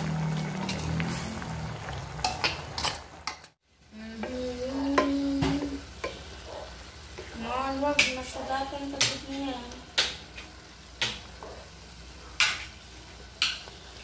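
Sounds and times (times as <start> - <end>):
food simmering: 0.0 - 14.0
vegetables sizzling in wok: 0.0 - 14.0.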